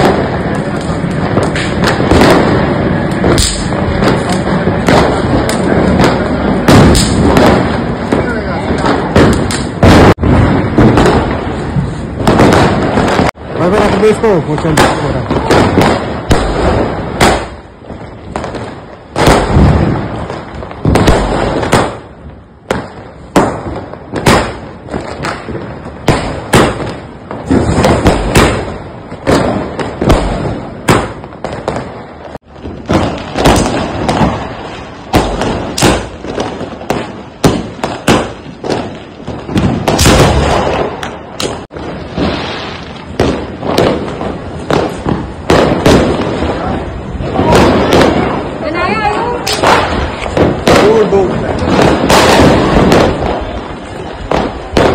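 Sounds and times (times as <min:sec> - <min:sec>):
firecrackers and fireworks banging: 0:00.0 - 0:54.9.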